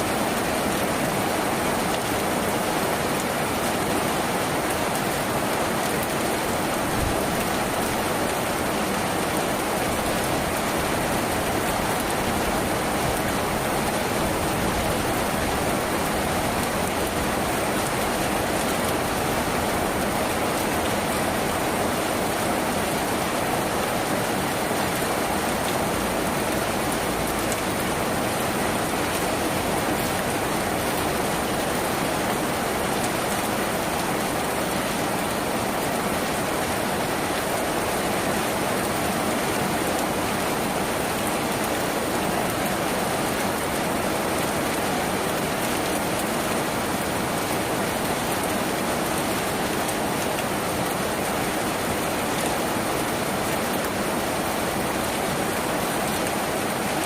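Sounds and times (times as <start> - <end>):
rain on a tin roof: 0.0 - 57.0.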